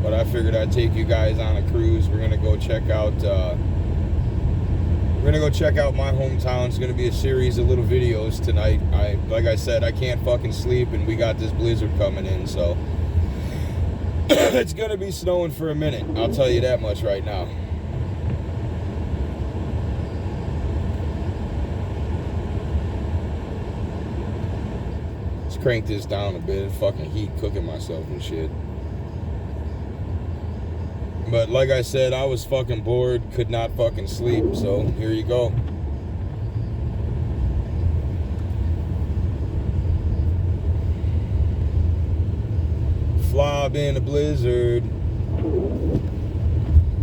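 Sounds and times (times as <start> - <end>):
car engine rumble: 0.0 - 47.0
road noise inside car: 0.0 - 47.0.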